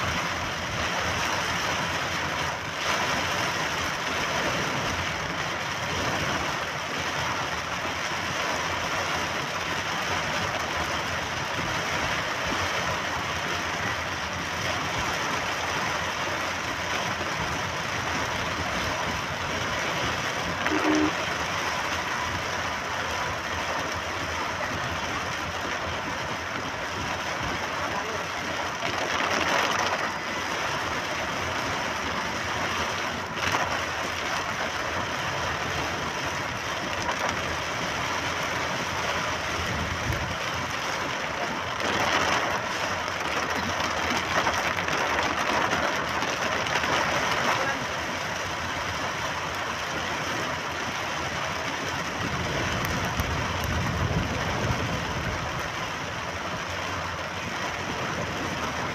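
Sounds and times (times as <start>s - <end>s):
rain on windscreen: 0.0s - 58.9s
tyres hissing on wet road: 0.0s - 58.9s.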